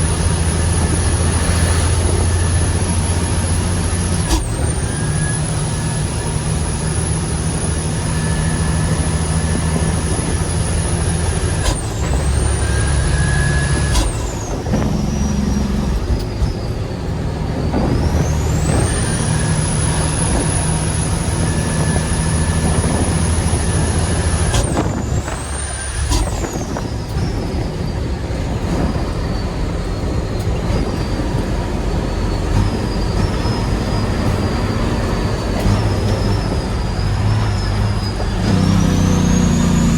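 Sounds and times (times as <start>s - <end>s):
diesel truck engine under load: 0.0s - 39.9s
high whistle: 0.1s - 16.9s, 17.6s - 28.0s, 28.9s - 39.9s.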